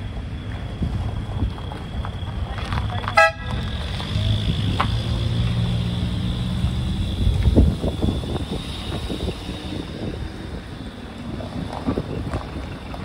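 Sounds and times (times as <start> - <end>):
car engine driving away: 0.0 - 13.0.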